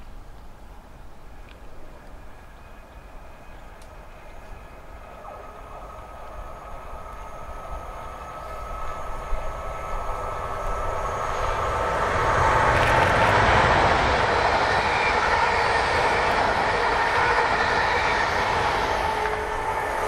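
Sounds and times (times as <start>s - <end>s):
train wheels rumbling on rail: 1.3s - 20.0s.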